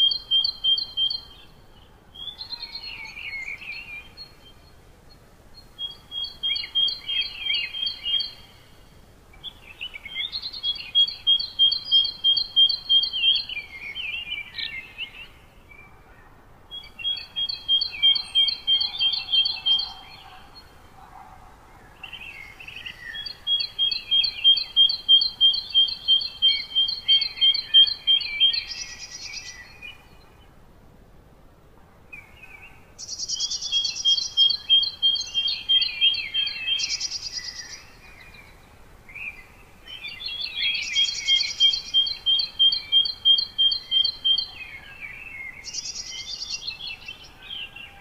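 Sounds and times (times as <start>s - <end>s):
faint outdoor hiss: 0.0s - 48.0s.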